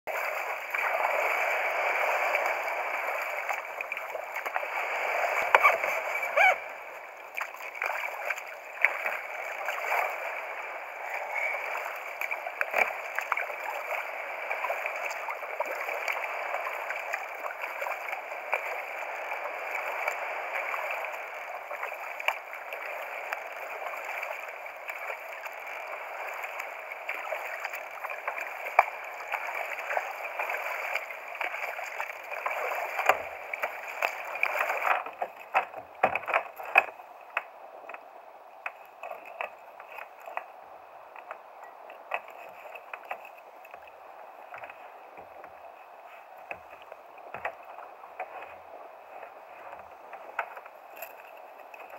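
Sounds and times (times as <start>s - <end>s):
kayak paddle splashing: 0.0s - 51.9s.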